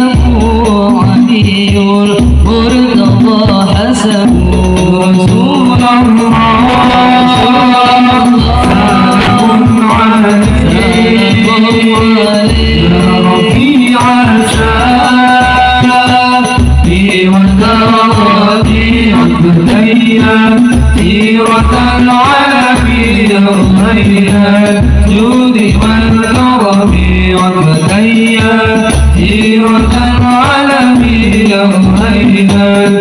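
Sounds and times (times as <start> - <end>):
jingling percussion: 0.0 - 33.0
low drum beats: 0.0 - 33.0
men singing devotional songs: 0.0 - 33.0.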